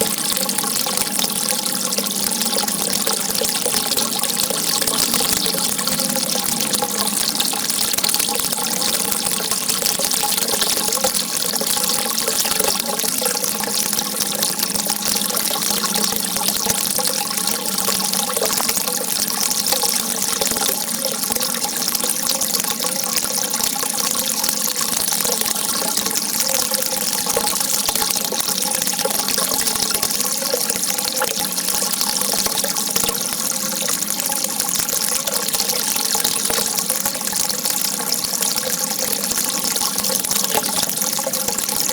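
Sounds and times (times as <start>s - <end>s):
rushing water jet: 0.0s - 41.9s.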